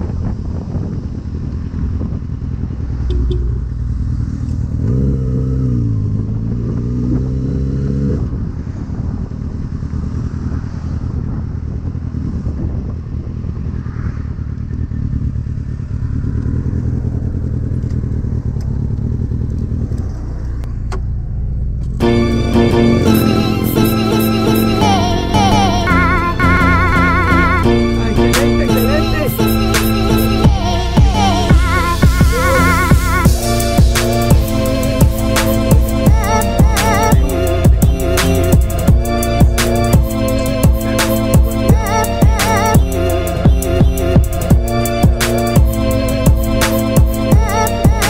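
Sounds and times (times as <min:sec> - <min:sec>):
motorcycle engine accelerating: 0:00.0 - 0:48.0
road and wind noise: 0:00.0 - 0:48.0.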